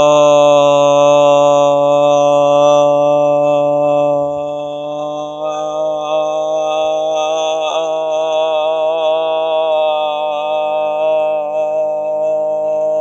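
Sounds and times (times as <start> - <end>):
man throat singing drone: 0.0 - 13.0.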